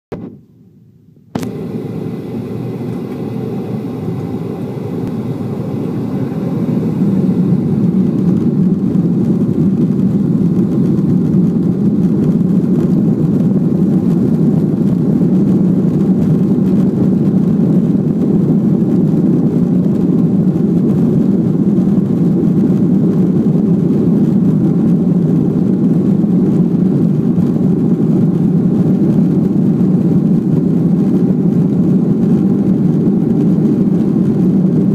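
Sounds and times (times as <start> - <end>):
jet engines roaring: 1.4 - 34.9.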